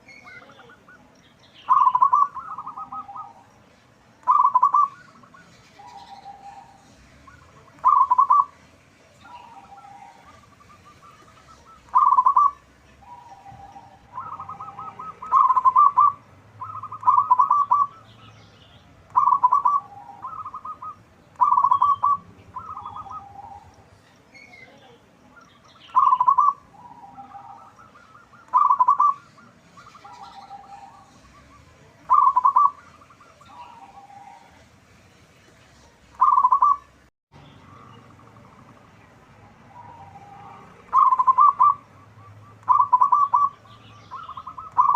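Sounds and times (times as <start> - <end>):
dove pulsed cooing call: 0.0 - 44.9.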